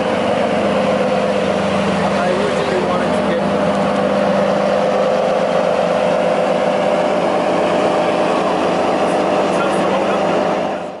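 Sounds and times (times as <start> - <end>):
sports car engine idling: 0.0 - 11.0.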